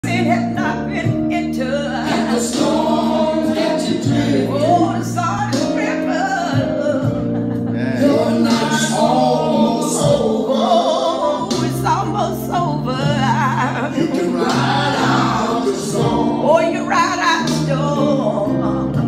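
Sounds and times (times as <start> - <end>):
woman singing gospel song: 0.0 - 7.4, 8.0 - 19.0
low held accompaniment notes: 0.0 - 19.0.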